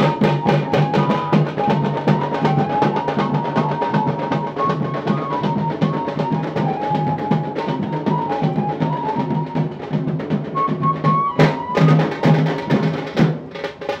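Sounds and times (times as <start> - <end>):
deep drum beat: 0.0 - 14.0.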